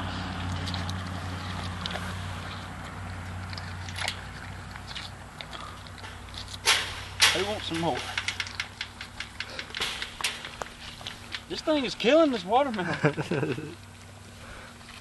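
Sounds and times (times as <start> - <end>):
goats chewing watermelon: 0.0 - 15.0
steady low hum: 0.0 - 15.0.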